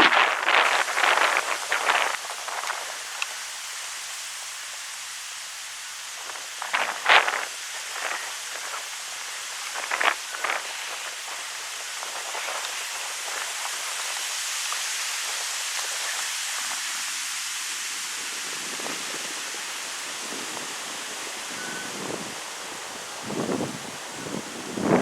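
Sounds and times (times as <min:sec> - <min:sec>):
wind rustling tree leaves: 0:00.0 - 0:25.0.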